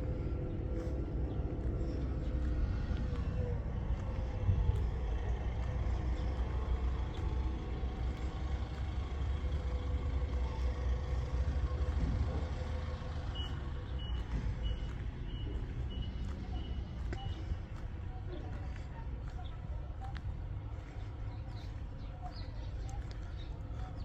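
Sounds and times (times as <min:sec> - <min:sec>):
combine harvester engine running: 0:00.0 - 0:24.0.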